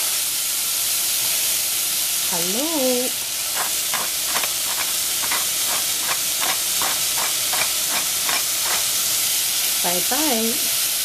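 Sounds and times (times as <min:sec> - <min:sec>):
eggplant sizzling in a pan: 0:00.0 - 0:11.0.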